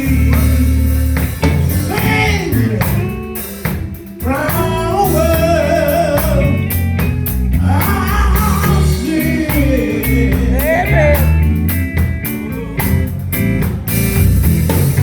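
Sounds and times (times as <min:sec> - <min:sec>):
person singing gospel: 0:00.0 - 0:13.7
band with bass and drums: 0:00.0 - 0:15.0.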